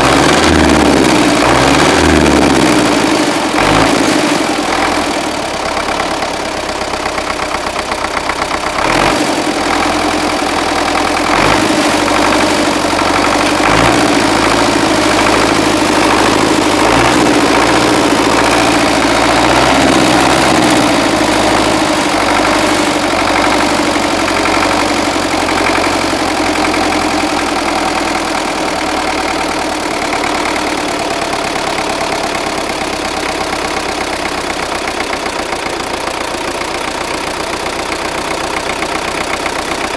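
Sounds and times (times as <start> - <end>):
diesel tractor engine revving: 0.0 - 39.9
engine knocking: 0.0 - 39.9.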